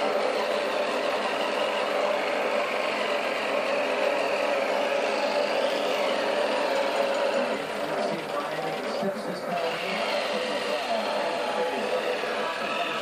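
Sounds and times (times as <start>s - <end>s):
electric toothbrush buzzing: 0.0s - 13.0s.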